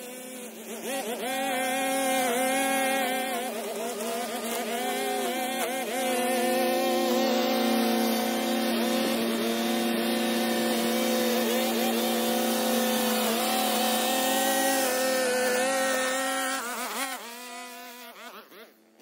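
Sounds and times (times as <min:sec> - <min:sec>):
string trimmer engine buzzing: 0:00.0 - 0:19.0.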